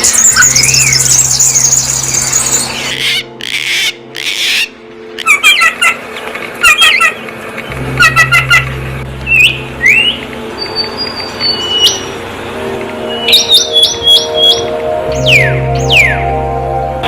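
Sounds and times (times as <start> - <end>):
low steady drone: 0.0 - 17.0
songbirds chirping: 0.0 - 17.0.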